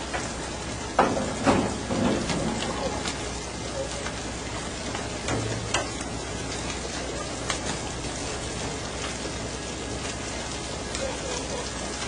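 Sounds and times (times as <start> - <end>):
foaming sea water hissing: 0.0 - 12.0
wind: 0.0 - 12.0.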